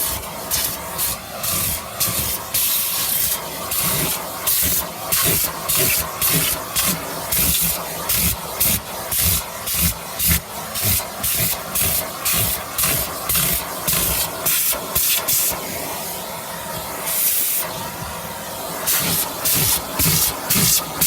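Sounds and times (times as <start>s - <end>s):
vacuum suction hiss: 0.0s - 21.0s.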